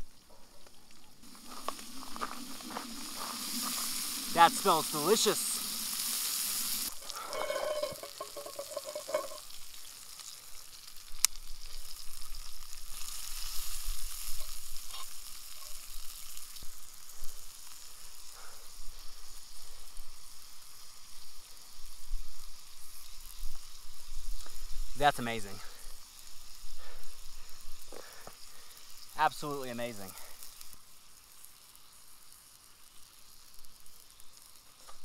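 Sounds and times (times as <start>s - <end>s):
fish sizzling in a pan: 0.0s - 35.0s.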